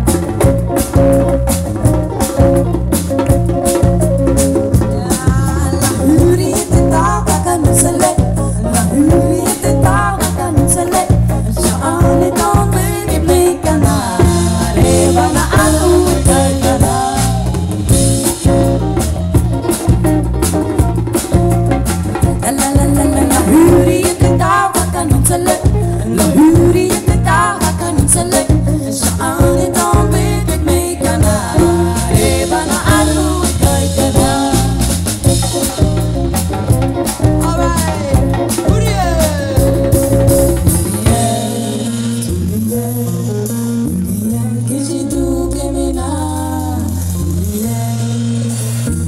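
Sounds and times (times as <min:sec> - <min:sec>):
bass guitar: 0:00.0 - 0:49.0
drum kit: 0:00.0 - 0:49.0
electric guitar: 0:00.0 - 0:49.0
woman singing: 0:04.6 - 0:19.3, 0:22.1 - 0:35.9, 0:37.4 - 0:48.9.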